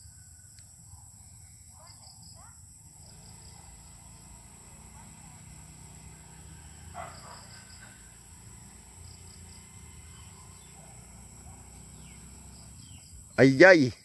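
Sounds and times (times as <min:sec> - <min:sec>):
crickets droning: 0:00.0 - 0:14.0.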